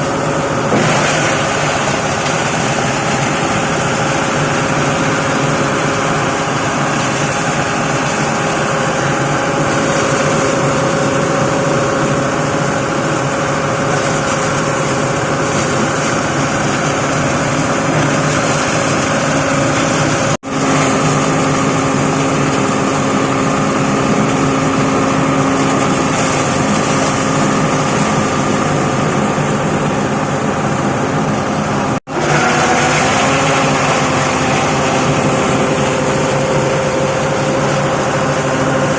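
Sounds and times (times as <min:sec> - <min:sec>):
shredding machine drone: 0:00.0 - 0:38.9.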